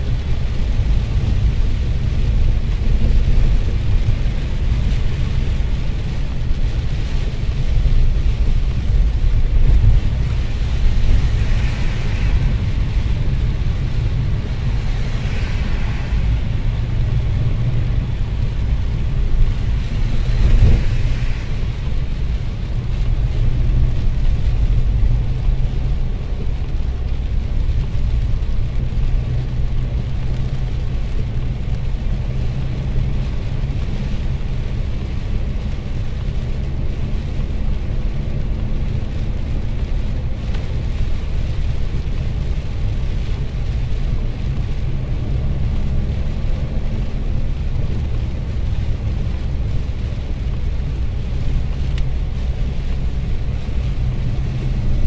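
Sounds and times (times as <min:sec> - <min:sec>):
car driving rumble from inside: 0:00.0 - 0:55.0
tyres hissing on wet road: 0:00.0 - 0:55.0.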